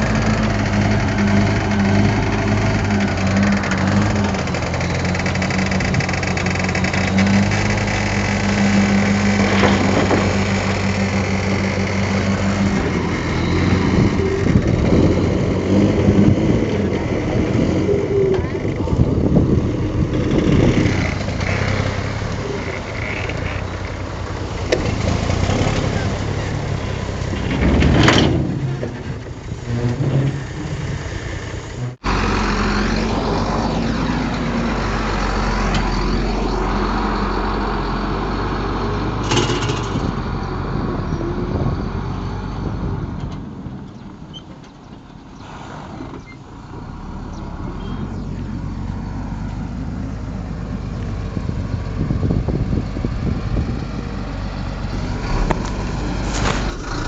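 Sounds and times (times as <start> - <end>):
heavy diesel engines under load: 0.0 - 57.0.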